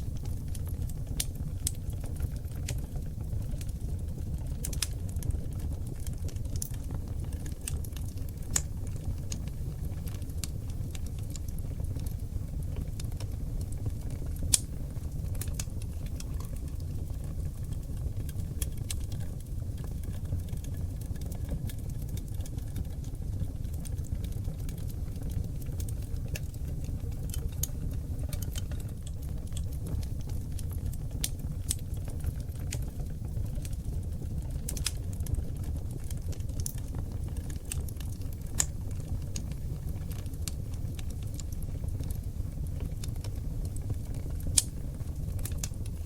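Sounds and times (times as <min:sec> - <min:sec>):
low rumble of flames: 0:00.0 - 0:46.0
wood fire crackling and popping: 0:00.0 - 0:46.0.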